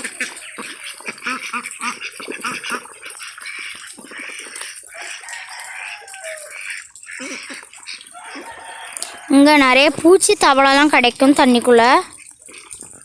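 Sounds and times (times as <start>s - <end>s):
ducks quacking: 0.0s - 12.7s.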